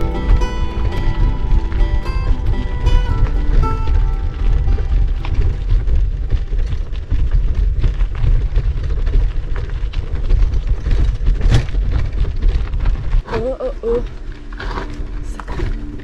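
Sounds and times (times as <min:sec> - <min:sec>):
bike rattling over rocky gravel: 0:00.0 - 0:16.0
wind buffeting microphone: 0:00.0 - 0:16.0.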